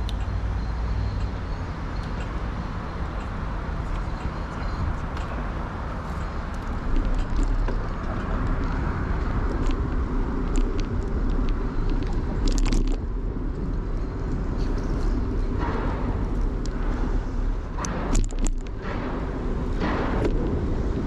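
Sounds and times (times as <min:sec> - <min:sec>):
low road rumble: 0:00.0 - 0:21.0
bicycle clicks and rattles: 0:01.2 - 0:21.0.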